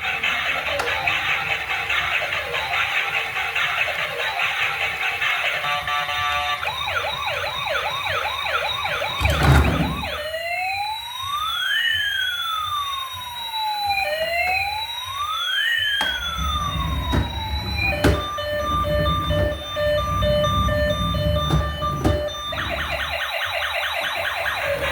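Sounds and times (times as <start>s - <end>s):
toy electronic siren: 0.0s - 24.9s.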